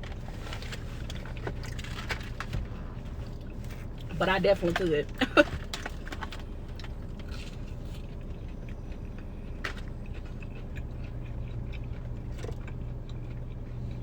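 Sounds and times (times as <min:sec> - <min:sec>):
person chewing and crunching food: 0:00.0 - 0:14.0
steady low hum: 0:00.0 - 0:14.0.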